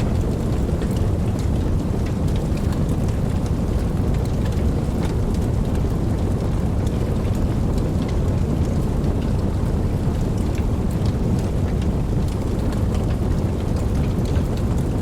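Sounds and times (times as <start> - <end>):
raindrops ticking nearby: 0.0 - 15.0
steady rain: 0.0 - 15.0.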